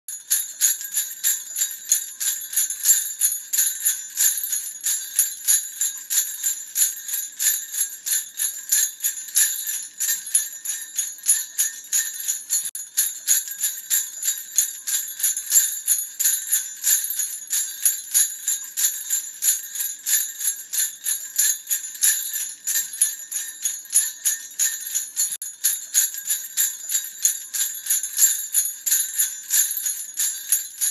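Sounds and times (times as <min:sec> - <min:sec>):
jingle bells shaken: 0:00.1 - 0:30.9.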